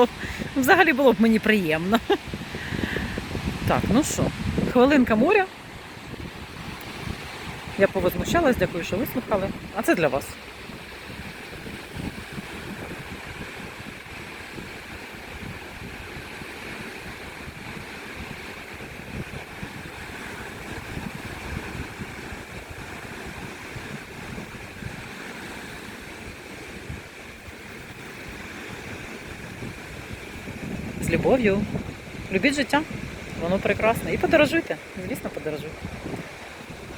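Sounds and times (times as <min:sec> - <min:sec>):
waves washing onto shore: 0:00.0 - 0:36.9
wind buffeting microphone: 0:00.0 - 0:36.9.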